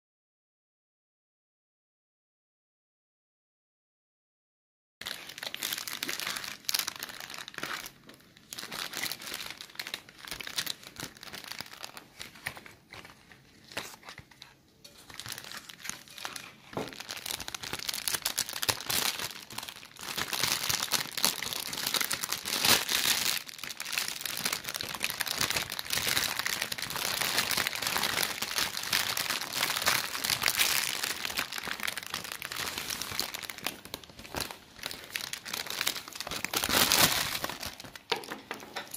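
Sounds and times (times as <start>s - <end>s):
foil gift wrap crinkling: 5.0s - 38.9s.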